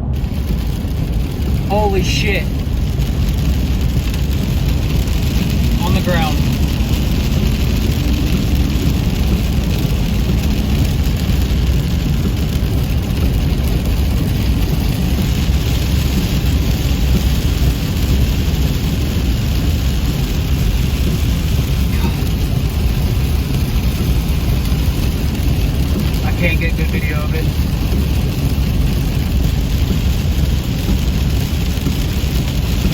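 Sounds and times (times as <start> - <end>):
loud low rumbling: 0.0 - 1.7, 2.4 - 32.9.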